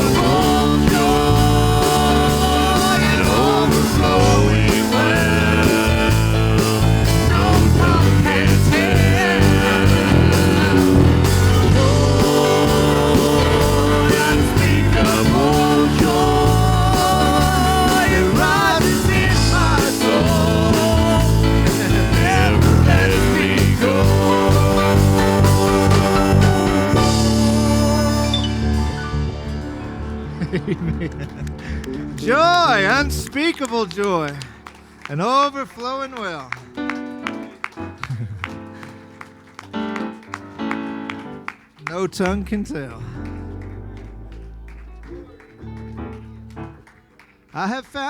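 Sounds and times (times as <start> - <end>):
church band playing worship song: 0.0 - 48.0.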